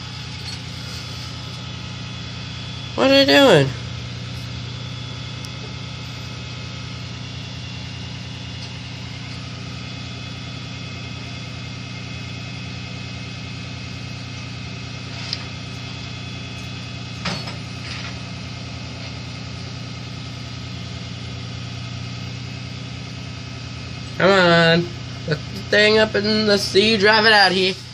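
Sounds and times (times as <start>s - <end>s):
truck engine idling: 0.0s - 27.9s.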